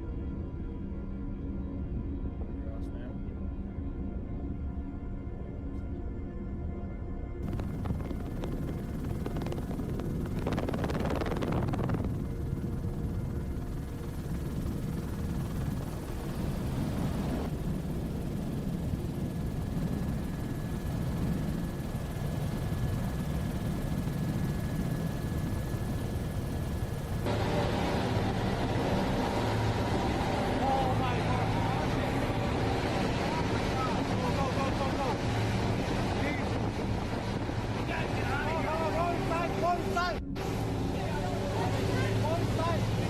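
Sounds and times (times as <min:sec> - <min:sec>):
aircraft engine drone: 0:07.4 - 0:43.0.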